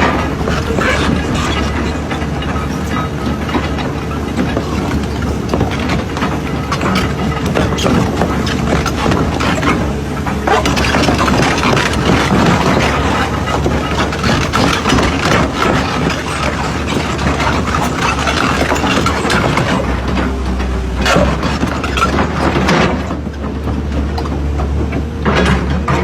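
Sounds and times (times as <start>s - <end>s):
excavator engine running: 0.0s - 26.0s
metallic knocks and clanks: 0.0s - 26.0s.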